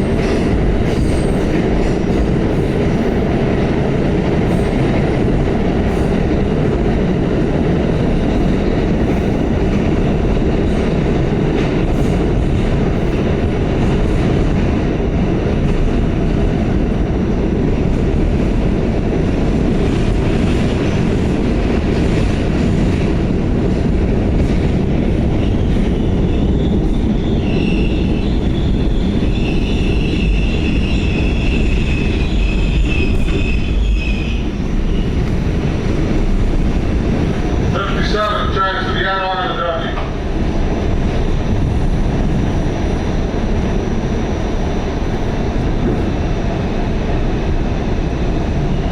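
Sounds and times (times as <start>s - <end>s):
subway wheels rumbling on rail: 0.0s - 48.9s.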